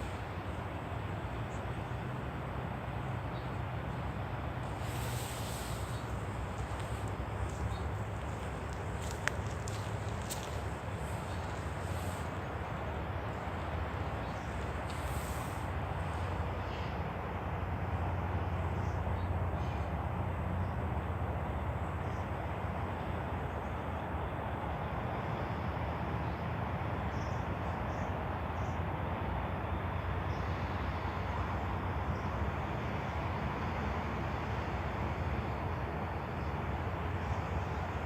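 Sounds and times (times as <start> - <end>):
distant city traffic rumble: 0.0 - 38.0.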